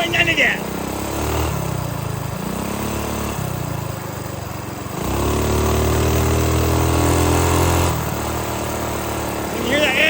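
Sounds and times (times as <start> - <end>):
minibike engine revving: 0.0 - 10.0.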